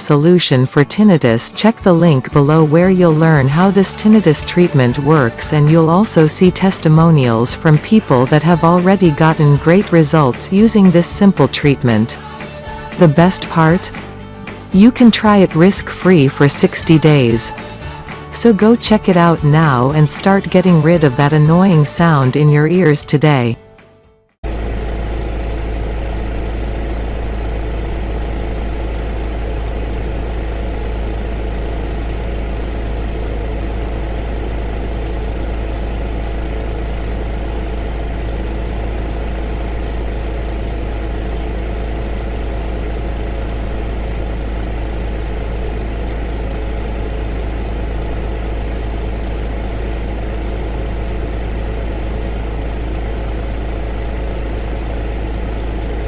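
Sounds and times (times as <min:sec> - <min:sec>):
heater humming: 0:00.0 - 0:56.0.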